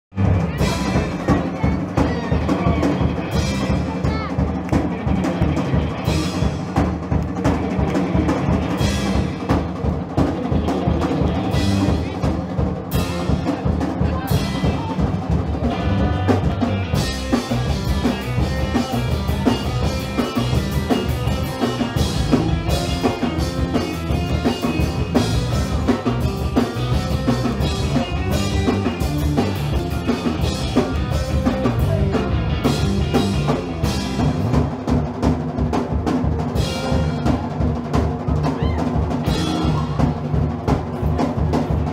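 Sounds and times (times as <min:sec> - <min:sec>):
bass drum and snare beat: 0:00.1 - 0:41.9
live band playing: 0:00.1 - 0:41.9.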